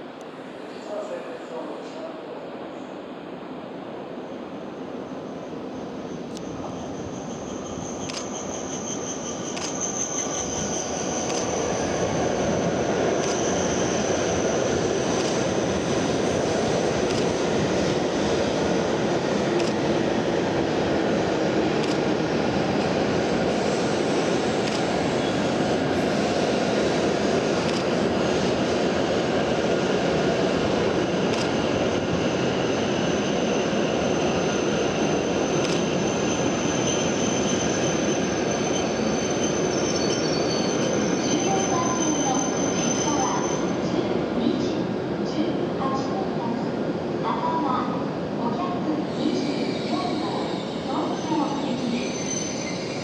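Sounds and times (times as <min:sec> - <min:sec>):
train motor and rolling noise: 0:05.2 - 0:53.0.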